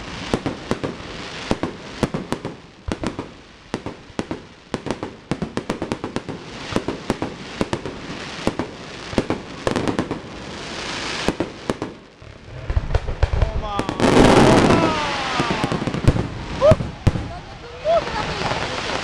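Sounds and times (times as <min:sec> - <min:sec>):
fireworks bangs and cracks: 0:00.0 - 0:19.0
fireworks hissing: 0:00.0 - 0:19.0.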